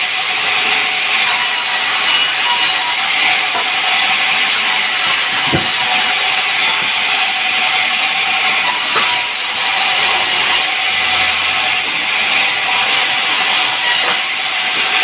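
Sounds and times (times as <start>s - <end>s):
saw cutting through log: 0.0s - 15.0s.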